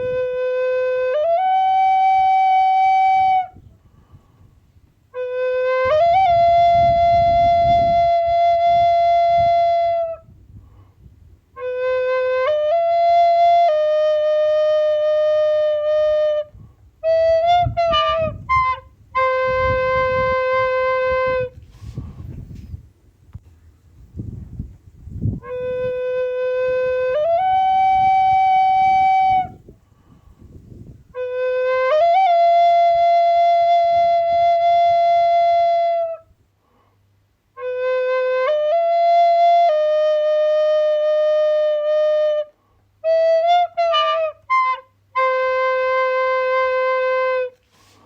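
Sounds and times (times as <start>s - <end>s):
flute-like slow melody: 0.0s - 3.8s, 5.1s - 10.5s, 11.5s - 22.1s, 25.3s - 29.7s, 30.8s - 36.4s, 37.5s - 48.0s.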